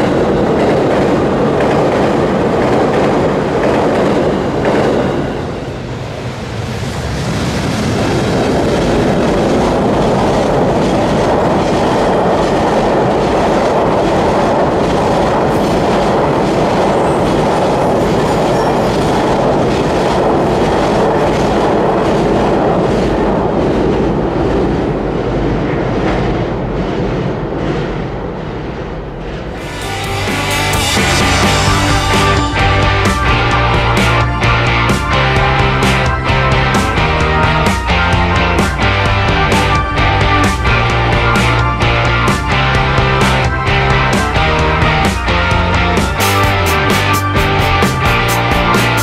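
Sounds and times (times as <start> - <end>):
freight train rumbling over bridge: 0.0 - 49.0.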